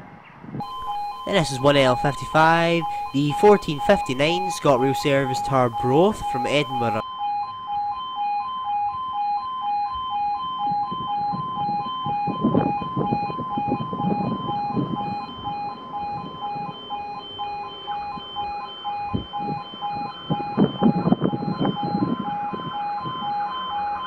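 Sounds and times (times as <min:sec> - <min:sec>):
level crossing alarm tones: 0:00.6 - 0:08.4, 0:10.7 - 0:24.0.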